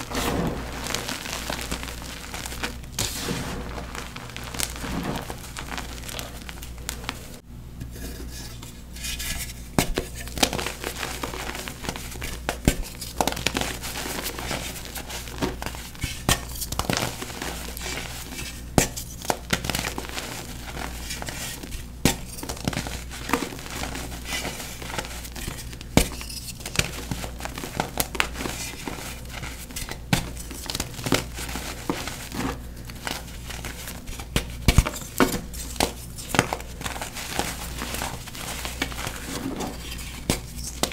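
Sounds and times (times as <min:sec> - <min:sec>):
chalk crushing and crackling: 0:00.0 - 0:07.4, 0:08.3 - 0:40.9.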